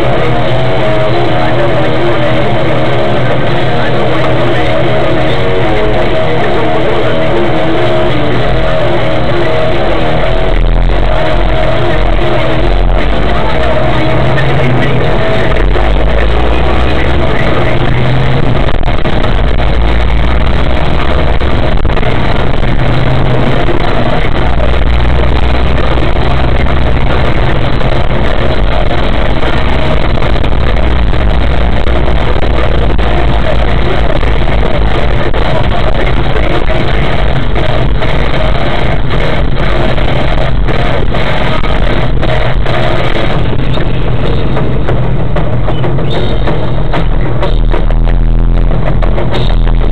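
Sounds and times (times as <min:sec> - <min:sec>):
car engine and road noise: 0:00.0 - 0:49.9
loud music with heavy bass: 0:00.0 - 0:49.9.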